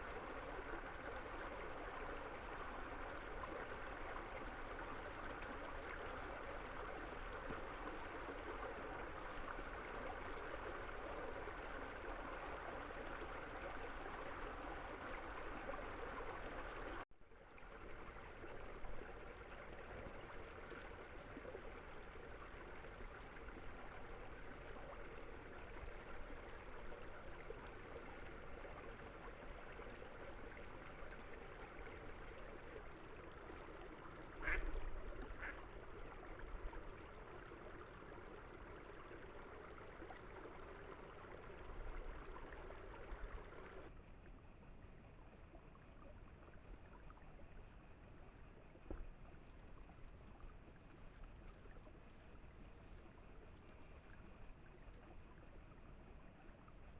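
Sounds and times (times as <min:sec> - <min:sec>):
water running over a dam: 0:00.0 - 0:56.9.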